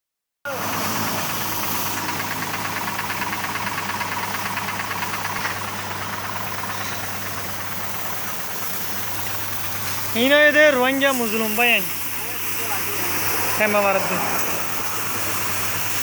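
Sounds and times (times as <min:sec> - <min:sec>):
motor humming: 0:00.5 - 0:16.0
fast pulsing rattle: 0:00.6 - 0:16.0.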